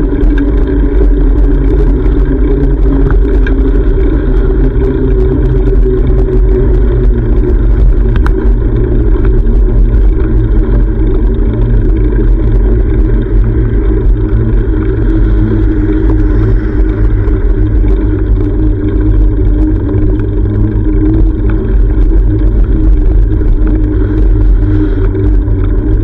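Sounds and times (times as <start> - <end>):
faint bicycle clicks and rattles: 0.0 - 26.0
wind buffeting microphone: 0.0 - 26.0.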